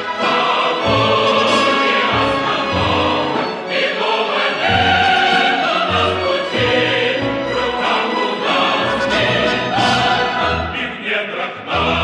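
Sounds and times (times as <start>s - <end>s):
instrumental accompaniment: 0.0s - 11.0s
choir singing march song: 0.0s - 12.0s.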